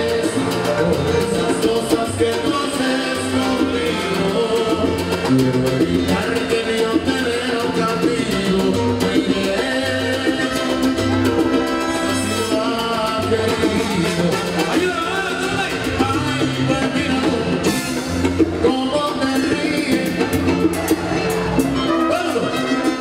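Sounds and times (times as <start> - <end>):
man singing: 0.0 - 20.8
salsa band playing: 0.0 - 23.0.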